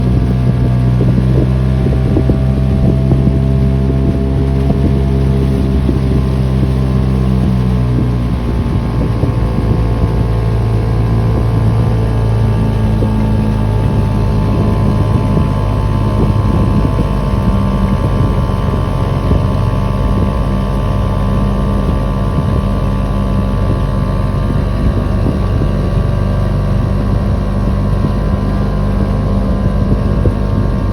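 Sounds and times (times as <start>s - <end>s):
outboard motor running: 0.0s - 30.9s.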